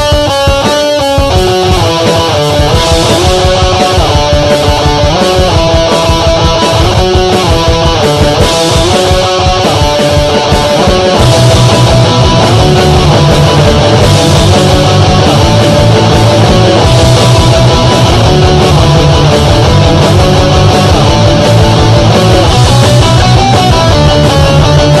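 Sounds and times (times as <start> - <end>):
punk rock with distorted guitar: 0.0 - 25.0.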